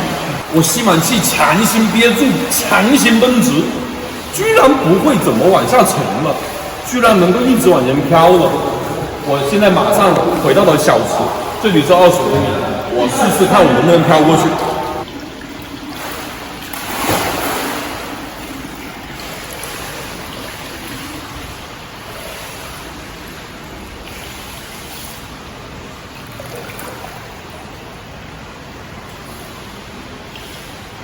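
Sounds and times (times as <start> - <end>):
water splash: 0.0 - 28.0
rushing wash of water: 0.0 - 31.0.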